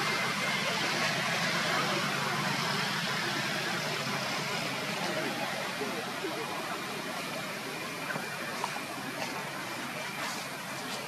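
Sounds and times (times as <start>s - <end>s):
even outdoor hiss: 0.0s - 11.0s.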